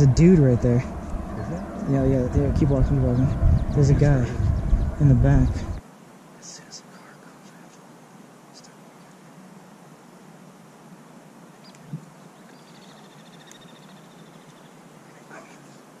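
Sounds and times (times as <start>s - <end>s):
steady low outdoor hiss: 0.0s - 16.0s.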